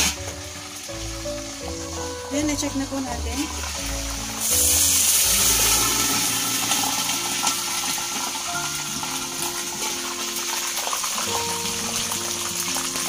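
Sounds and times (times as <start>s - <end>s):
background music: 0.0s - 13.0s
fish sizzling in oil: 0.0s - 13.0s.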